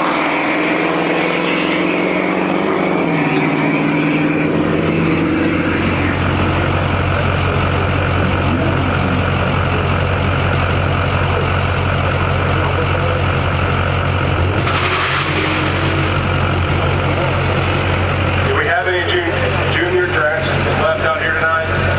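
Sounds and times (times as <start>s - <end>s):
diesel truck engine idling: 2.4s - 21.9s.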